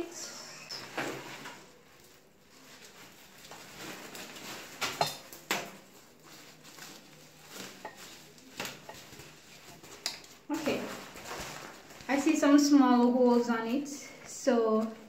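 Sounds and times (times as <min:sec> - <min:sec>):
fabric rustling: 0:00.7 - 0:15.0.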